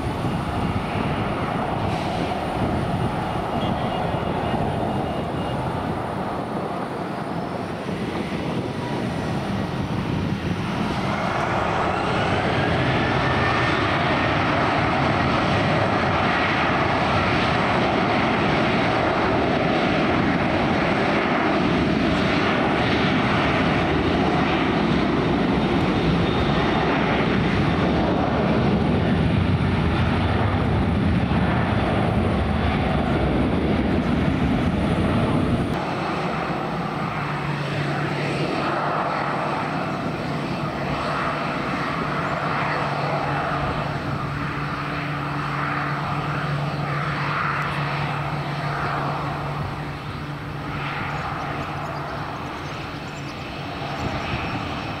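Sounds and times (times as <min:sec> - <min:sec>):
aircraft engines roaring: 0:00.0 - 0:55.0.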